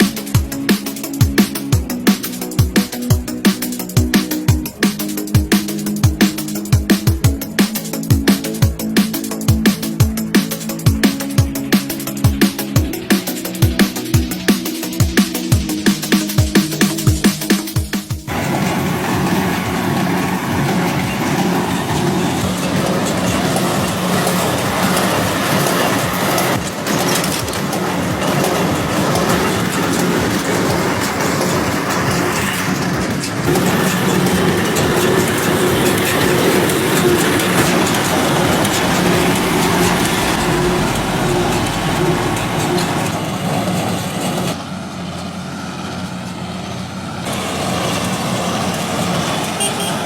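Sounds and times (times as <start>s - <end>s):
machinery humming and rattling: 0.0s - 50.0s.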